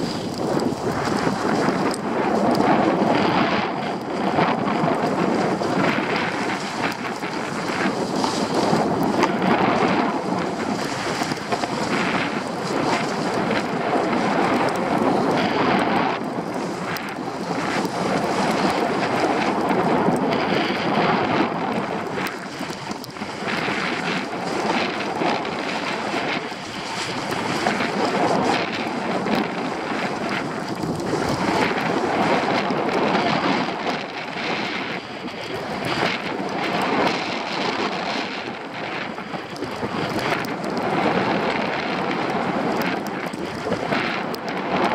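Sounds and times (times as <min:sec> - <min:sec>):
skis sliding over snow: 0:00.0 - 0:44.9
wind buffeting microphone: 0:00.0 - 0:44.9.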